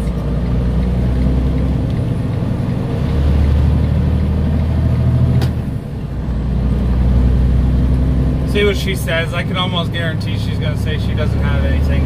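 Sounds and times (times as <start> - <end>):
road noise inside cab: 0.0 - 12.0
truck diesel engine drone: 0.0 - 12.0.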